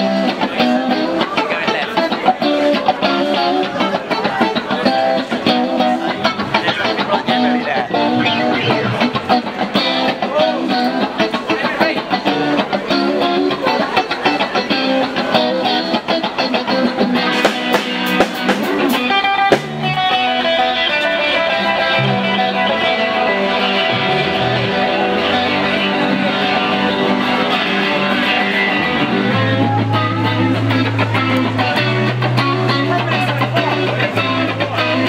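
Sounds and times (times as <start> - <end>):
bass guitar: 0.0 - 35.0
guitar band music: 0.0 - 35.0.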